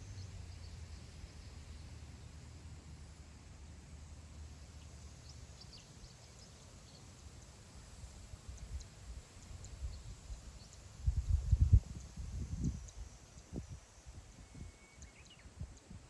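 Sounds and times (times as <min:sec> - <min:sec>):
wind over grassland: 0:00.0 - 0:16.0.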